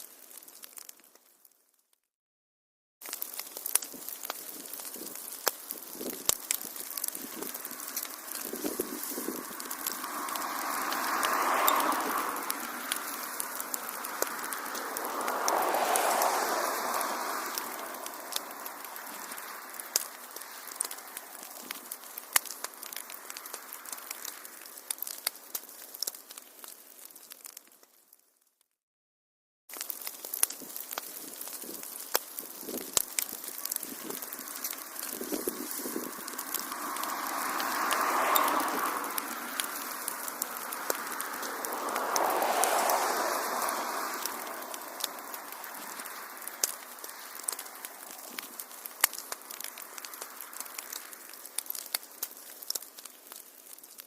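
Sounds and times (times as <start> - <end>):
wood fire crackling: 0.0 - 1.9, 3.0 - 28.6, 29.7 - 54.0.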